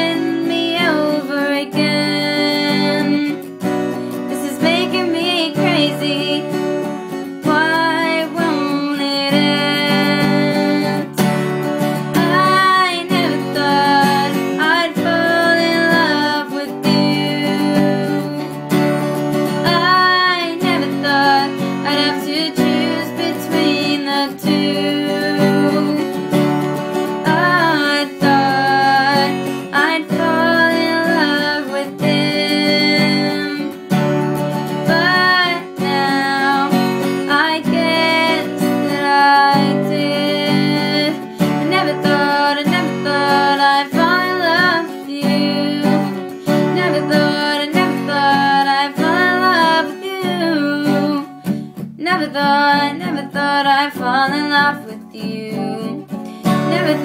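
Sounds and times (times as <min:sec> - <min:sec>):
acoustic guitar strumming: 0:00.0 - 0:57.0
girl singing: 0:00.0 - 0:57.0.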